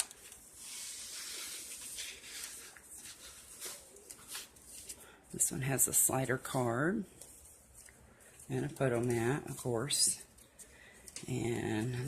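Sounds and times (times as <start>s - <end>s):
paper and cardstock rustling: 0.0s - 5.2s, 6.5s - 12.0s.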